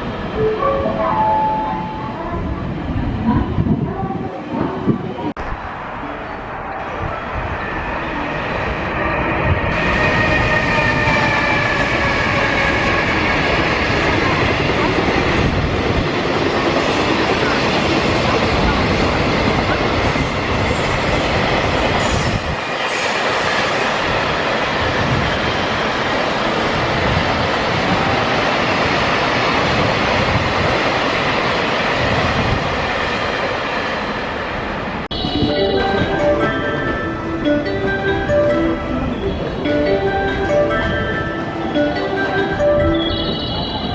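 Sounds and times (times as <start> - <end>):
train wheels rumbling on rails: 6.8 - 43.9.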